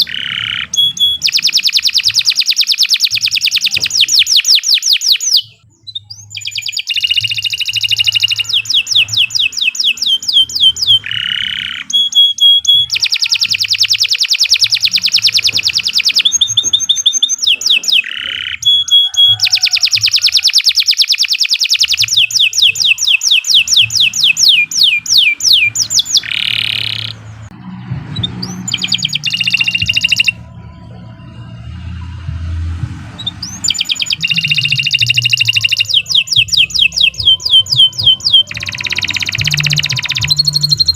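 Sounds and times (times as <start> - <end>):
canary singing trills: 0.0 - 32.1, 33.0 - 40.9.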